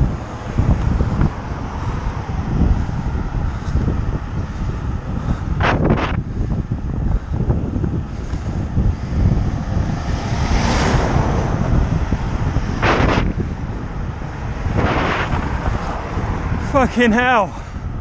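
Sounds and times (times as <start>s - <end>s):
cars overtaking: 0.0s - 18.0s
lorry passing: 0.0s - 18.0s
wind rumbling on microphone: 0.0s - 18.0s.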